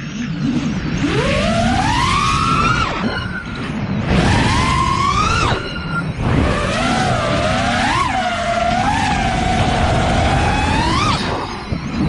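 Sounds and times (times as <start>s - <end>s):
drone motors whining: 0.0s - 12.0s
wind rumble: 0.3s - 12.0s.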